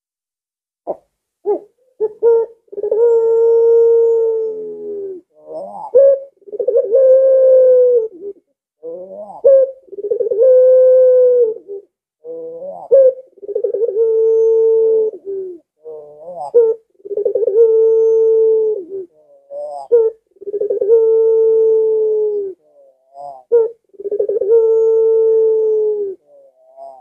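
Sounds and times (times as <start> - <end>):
dove cooing: 0.9 - 27.0.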